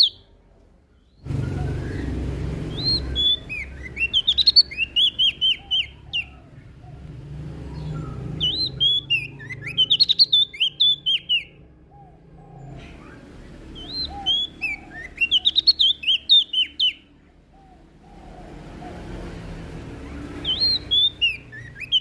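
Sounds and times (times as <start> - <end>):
leaf warbler singing: 0.0 - 22.0.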